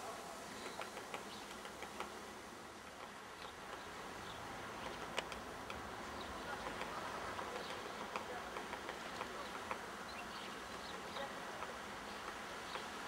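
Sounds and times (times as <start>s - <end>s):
woodpecker pecking at a tree: 0.5s - 13.0s.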